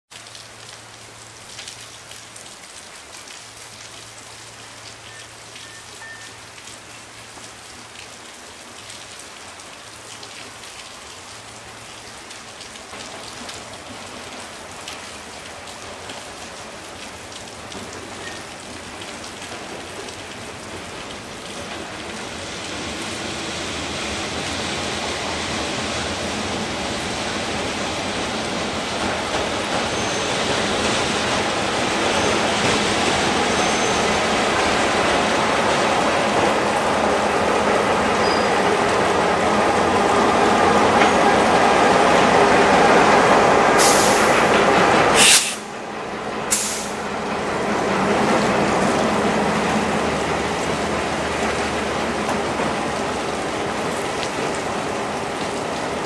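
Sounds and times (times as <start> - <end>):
freight train locomotive approaching: 2.2 - 56.0.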